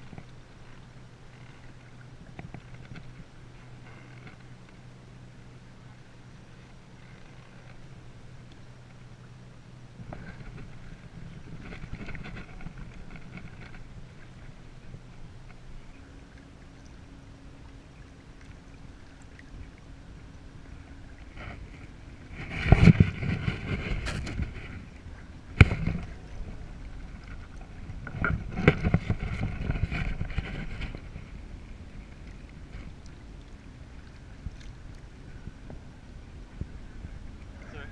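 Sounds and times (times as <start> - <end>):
faint water lapping: 0.0 - 37.9
water splashing against kayak hull: 0.0 - 37.9.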